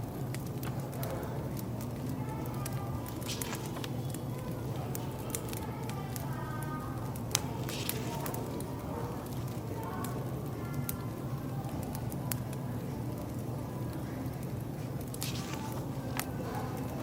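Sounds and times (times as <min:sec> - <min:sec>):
murmur of cafe chatter: 0:00.0 - 0:17.0
wood fire crackling: 0:00.0 - 0:17.0.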